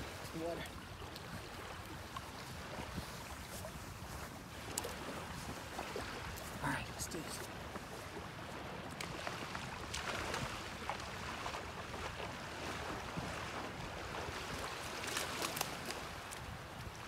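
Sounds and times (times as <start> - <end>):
sea surf washing on shore: 0.0 - 17.0
crackling splashes: 0.2 - 6.6, 7.2 - 17.0.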